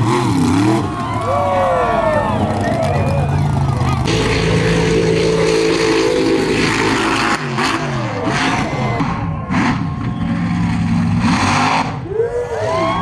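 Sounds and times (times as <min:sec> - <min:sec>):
truck engine revving: 0:00.0 - 0:12.1.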